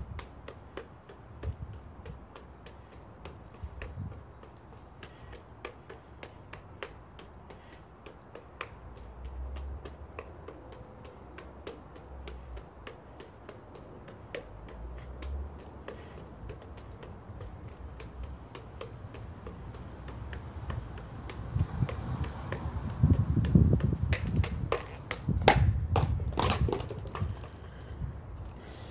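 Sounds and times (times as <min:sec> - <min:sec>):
juggling clubs smacking into hands: 0:00.0 - 0:27.6.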